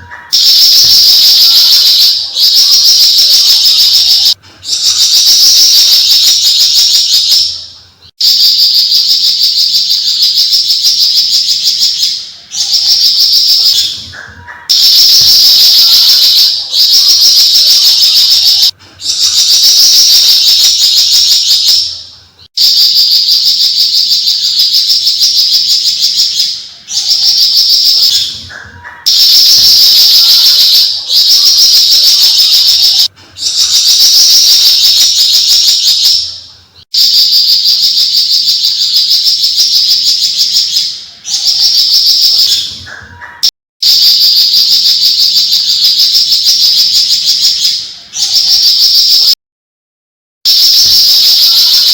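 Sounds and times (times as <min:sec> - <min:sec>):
bird singing buzzy chatter: 0:00.0 - 0:49.4, 0:50.5 - 0:51.9.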